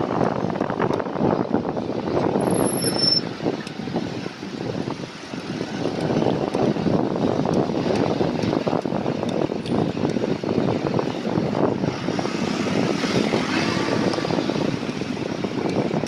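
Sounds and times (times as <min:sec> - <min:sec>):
street traffic: 0:00.0 - 0:16.0
wind buffeting microphone: 0:00.0 - 0:16.0.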